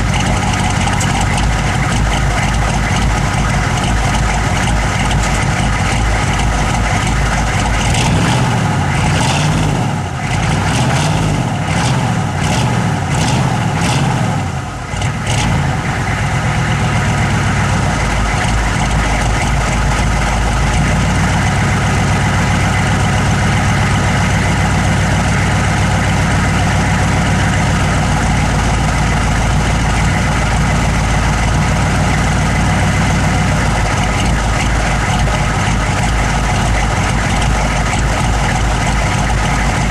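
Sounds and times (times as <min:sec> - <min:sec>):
engine idling roughly: 0:00.0 - 0:39.9.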